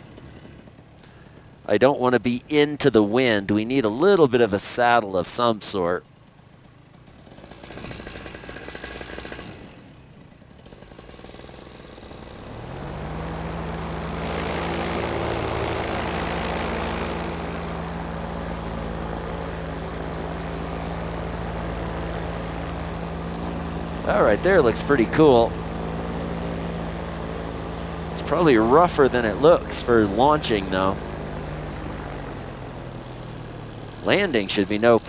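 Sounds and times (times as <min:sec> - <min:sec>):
paramotor engine droning: 0:00.0 - 0:35.0.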